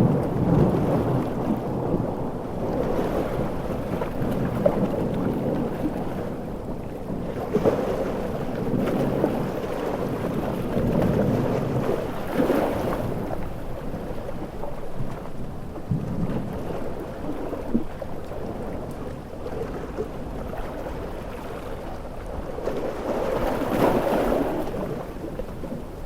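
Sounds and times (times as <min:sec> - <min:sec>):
ocean waves surging: 0:00.0 - 0:26.0
wind: 0:00.0 - 0:26.0.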